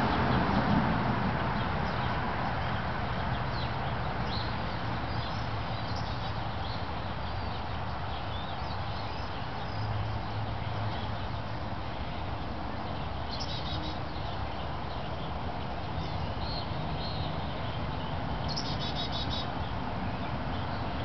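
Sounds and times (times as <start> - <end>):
steady background noise: 0.0 - 21.0
small birds chirping: 1.6 - 11.7, 12.3 - 21.0.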